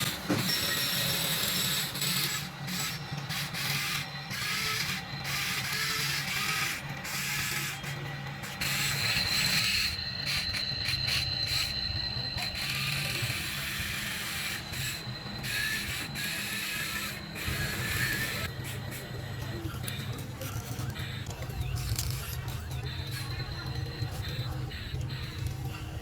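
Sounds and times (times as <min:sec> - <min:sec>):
small motor and gears whirring: 0:00.0 - 0:26.0
thin high whine: 0:00.0 - 0:26.0.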